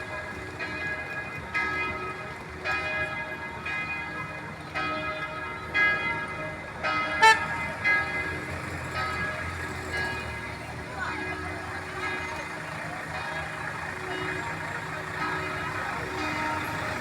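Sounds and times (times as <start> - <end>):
church bell tolling: 0.0 - 17.0.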